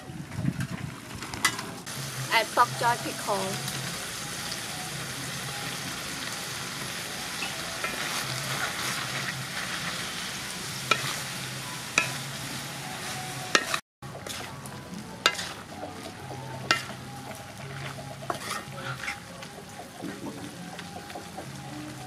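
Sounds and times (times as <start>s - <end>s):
food sizzling in a wok: 1.9s - 22.0s.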